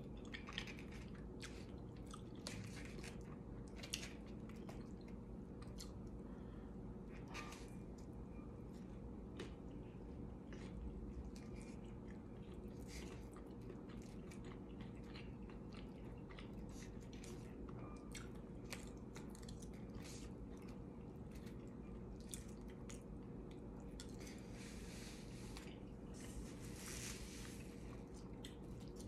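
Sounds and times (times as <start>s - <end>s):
person chewing food: 0.0s - 6.5s, 7.9s - 29.0s.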